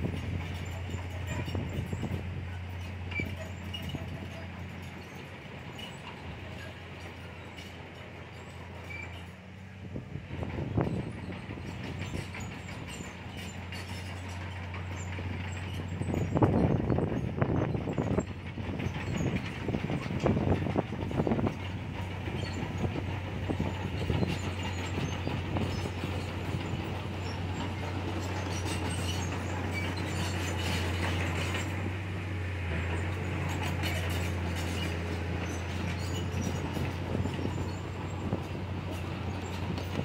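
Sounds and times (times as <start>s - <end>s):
bulldozer diesel engine running: 0.0s - 40.0s
steel tracks clattering squealing: 0.0s - 40.0s.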